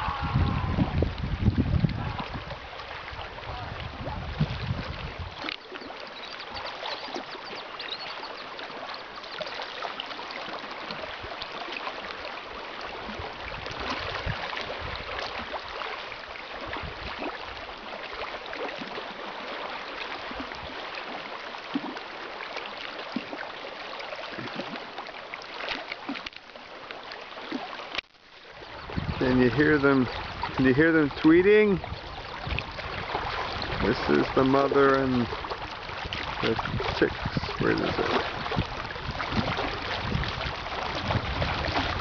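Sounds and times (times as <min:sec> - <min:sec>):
water lapping and trickling: 0:00.0 - 0:42.0.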